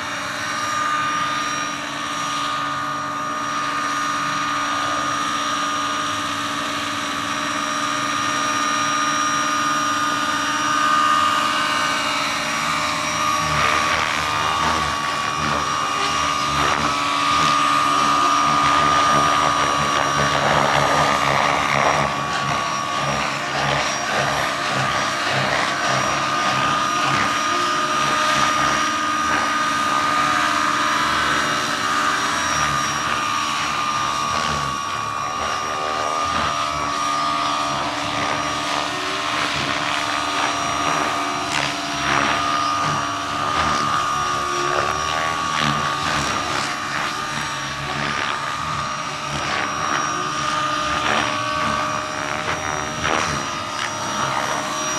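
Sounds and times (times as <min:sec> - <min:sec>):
model helicopter drive whine: 0:00.0 - 0:54.9
spinning helicopter rotors: 0:00.0 - 0:54.9.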